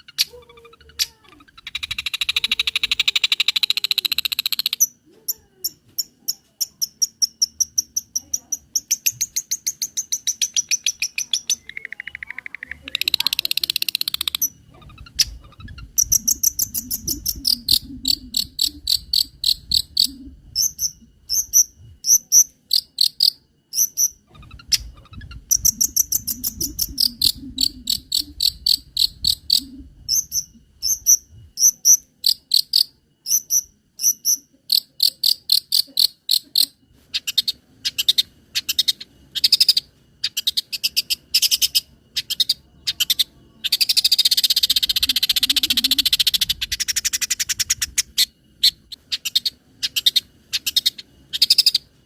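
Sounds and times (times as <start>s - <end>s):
bird singing mimicry song: 0.0s - 52.0s.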